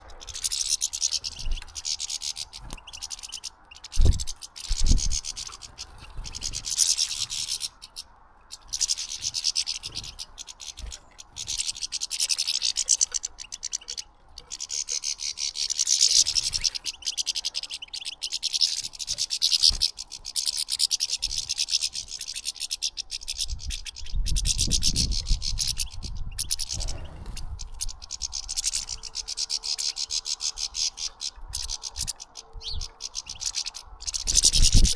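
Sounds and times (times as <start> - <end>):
finches twittering: 0.0 - 34.9.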